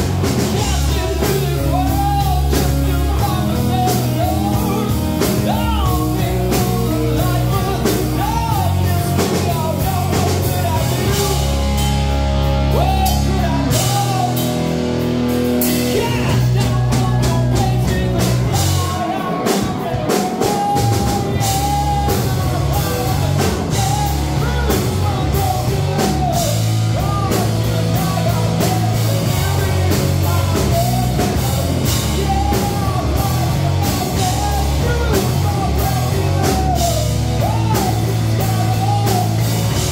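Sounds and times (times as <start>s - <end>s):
drum kit: 0.0s - 39.9s
electric bass: 0.0s - 39.9s
electric guitar: 0.0s - 39.9s
man singing: 0.0s - 39.9s.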